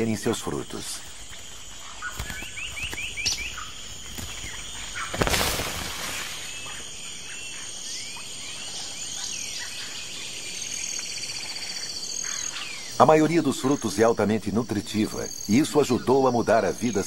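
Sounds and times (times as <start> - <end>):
bird chirps: 0.0 - 17.0
high insect buzz: 0.0 - 17.0.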